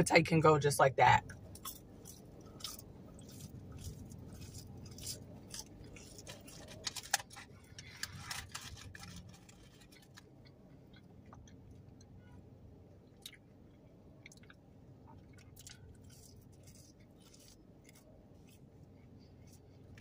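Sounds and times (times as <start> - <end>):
person chewing fries: 1.3 - 20.0.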